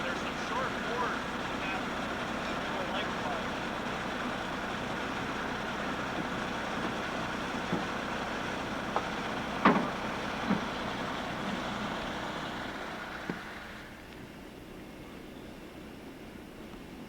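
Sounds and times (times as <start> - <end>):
steady engine noise: 0.0 - 15.0.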